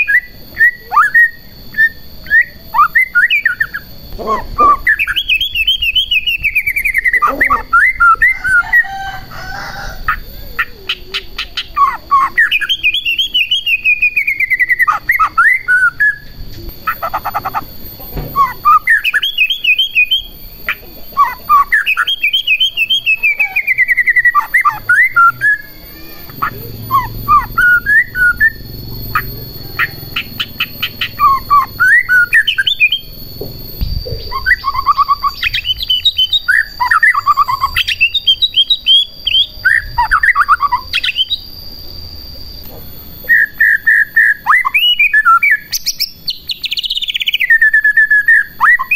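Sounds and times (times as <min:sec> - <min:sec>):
bird singing whistled phrases: 0:00.0 - 0:48.9.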